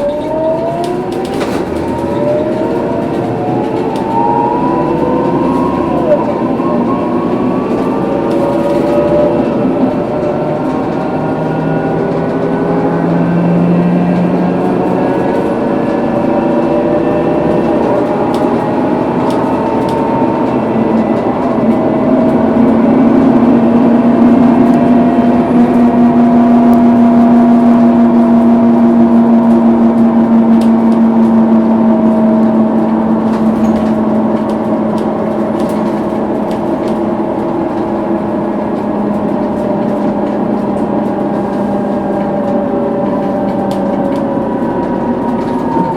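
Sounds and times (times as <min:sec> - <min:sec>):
bus differential whining: 0:00.0 - 0:45.9
diesel engine running: 0:00.0 - 0:45.9.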